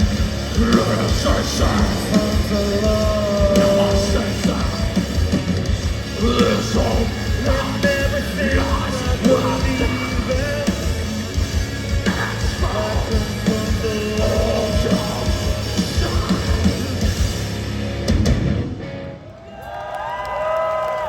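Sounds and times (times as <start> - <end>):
pounding drums: 0.0 - 18.7
distorted guitars: 0.0 - 19.3.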